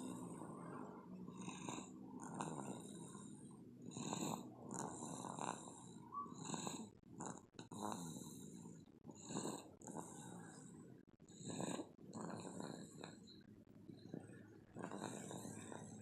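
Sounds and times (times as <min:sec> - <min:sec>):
baby snoring: 0:00.0 - 0:10.7, 0:11.3 - 0:13.4, 0:14.0 - 0:16.0.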